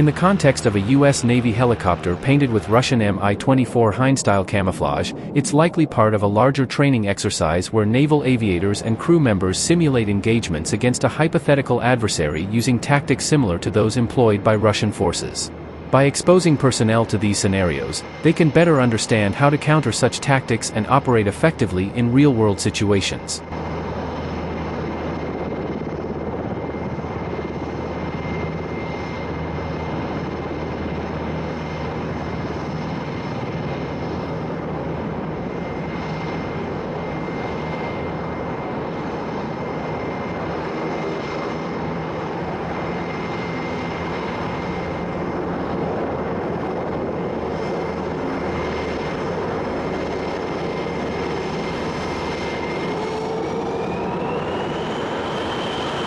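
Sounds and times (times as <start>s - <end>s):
helicopter engine running: 0.0s - 56.0s
high whine: 0.0s - 56.0s.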